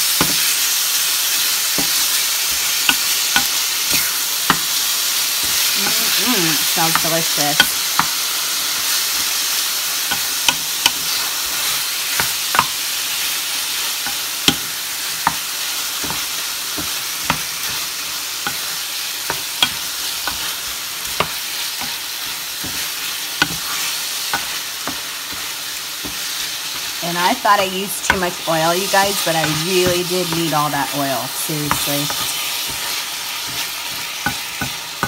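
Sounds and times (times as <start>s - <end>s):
chicken sizzling in frying pan: 0.0s - 35.0s.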